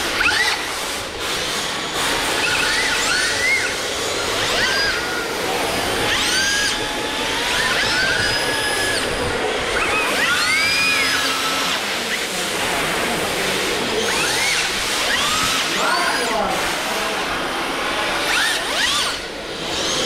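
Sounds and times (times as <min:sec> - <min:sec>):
electric motors whining: 0:00.0 - 0:20.0.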